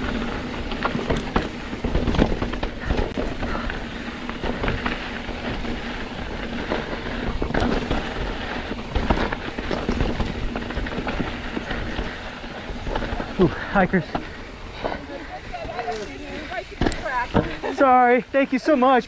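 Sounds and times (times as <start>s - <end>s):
bike frame and chain rattling: 0.0s - 19.0s
bike tyres crunching on rock: 0.0s - 19.0s.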